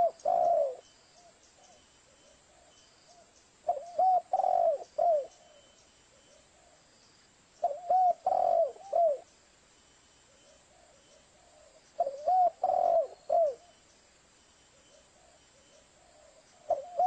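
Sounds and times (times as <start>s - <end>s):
dove cooing: 0.0s - 6.8s, 7.6s - 9.3s, 10.3s - 13.8s, 14.7s - 17.0s.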